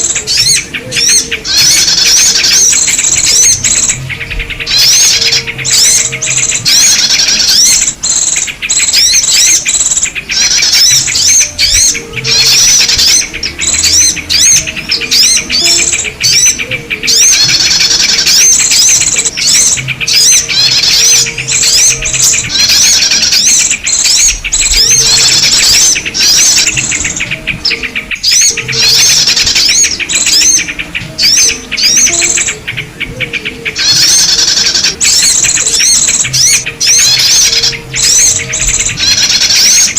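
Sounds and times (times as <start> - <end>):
small birds chattering and chirping: 0.0 - 39.9.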